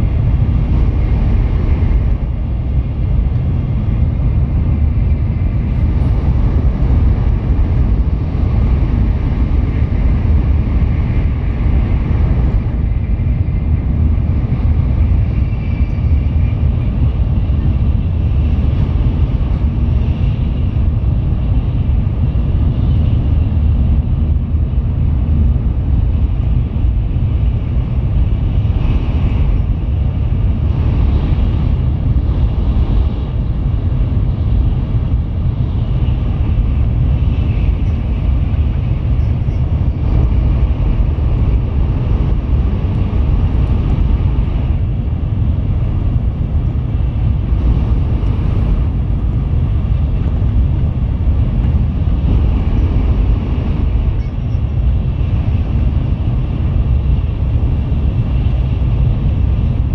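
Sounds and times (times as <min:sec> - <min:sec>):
train cabin low rumble: 0:00.0 - 0:59.9.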